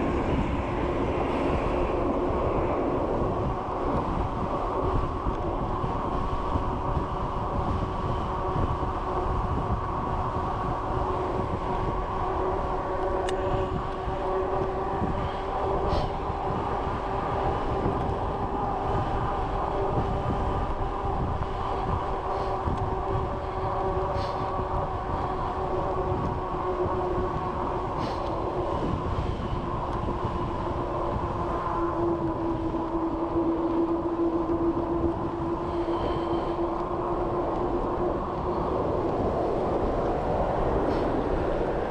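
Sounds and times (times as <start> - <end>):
bicycle tyres rolling on road: 0.0 - 41.9
wind rumbling on microphone: 0.0 - 41.9.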